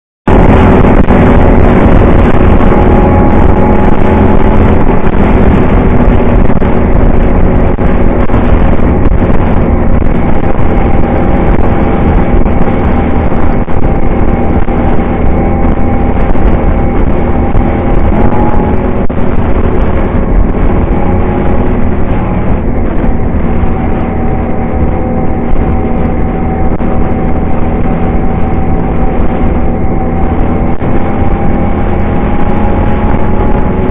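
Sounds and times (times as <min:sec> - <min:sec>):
wind and road noise rumble: 0:00.2 - 0:33.9
quad bike engine running: 0:00.3 - 0:33.9.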